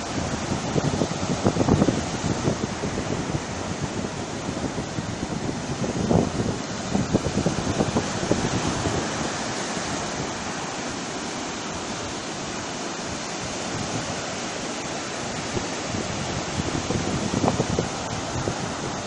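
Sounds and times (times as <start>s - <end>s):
sea surf washing onto beach: 0.0s - 19.0s
wind on microphone: 0.0s - 19.0s.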